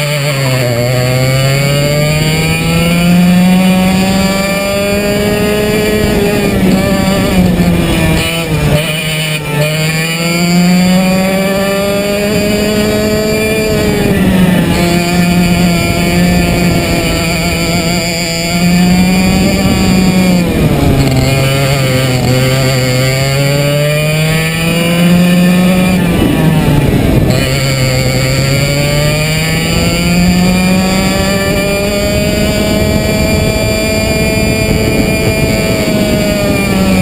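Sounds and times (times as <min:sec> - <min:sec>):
kart two-stroke engine at full throttle: 0:00.0 - 0:37.0.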